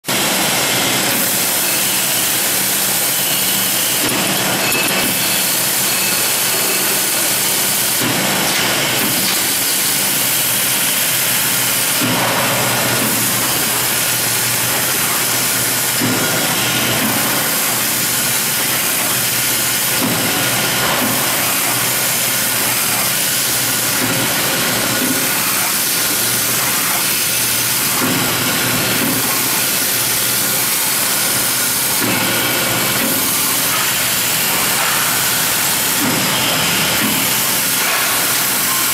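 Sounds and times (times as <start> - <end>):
band saw cutting machine whirring: 0.1 - 38.9.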